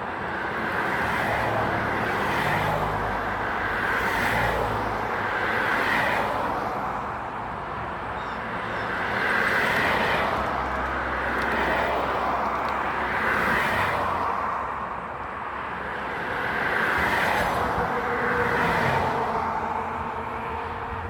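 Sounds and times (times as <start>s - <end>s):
vehicles driving past: 0.0s - 21.0s.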